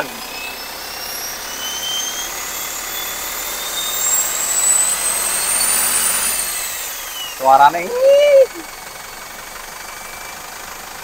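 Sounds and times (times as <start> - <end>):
diesel engine accelerating: 0.0 - 11.0
turbocharger whine: 0.0 - 11.0.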